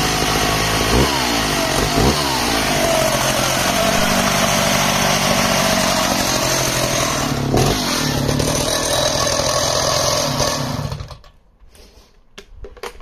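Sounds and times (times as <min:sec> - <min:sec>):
chainsaw idling and stopping: 0:00.0 - 0:11.4.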